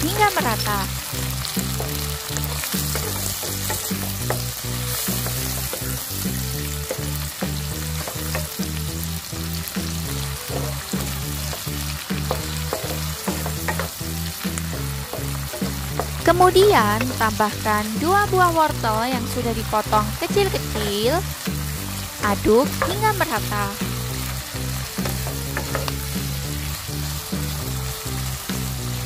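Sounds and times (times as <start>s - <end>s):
spatula stirring and scraping wok: 0.0s - 17.4s, 20.2s - 28.8s
background music with bass: 0.0s - 29.0s
food sizzling in hot oil: 0.0s - 29.0s.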